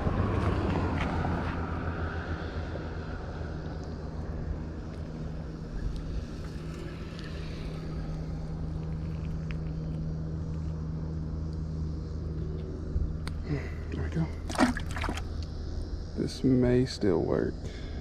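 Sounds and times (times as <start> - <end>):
motor humming steadily: 0.0 - 18.0.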